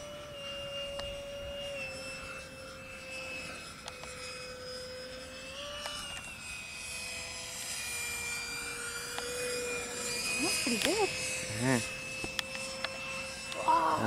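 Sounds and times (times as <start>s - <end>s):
model jet engine whine: 0.0s - 14.0s.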